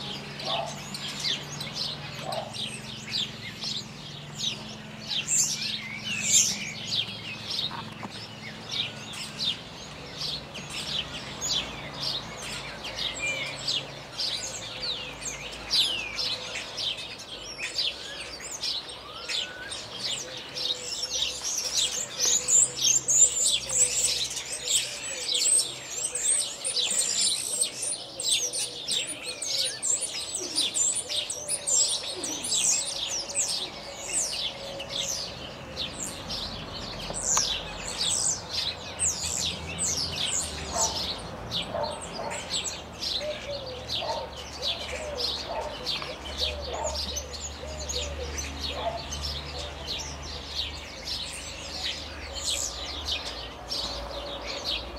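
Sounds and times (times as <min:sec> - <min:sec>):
starlings chirping and clicking: 0:00.0 - 0:54.9.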